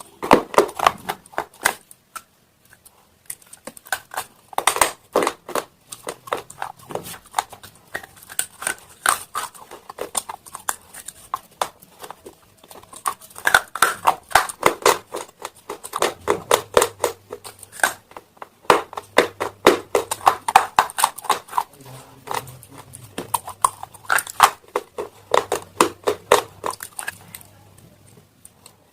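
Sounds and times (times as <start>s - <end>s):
chewing crunchy stone pieces: 0.0s - 27.5s.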